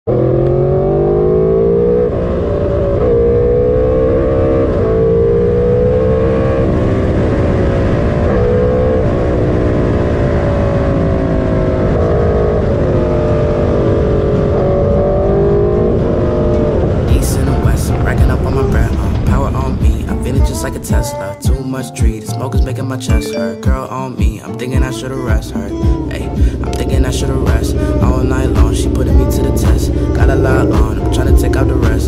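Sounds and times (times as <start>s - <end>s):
motorcycle engine revving: 0.1s - 22.8s, 24.8s - 32.0s.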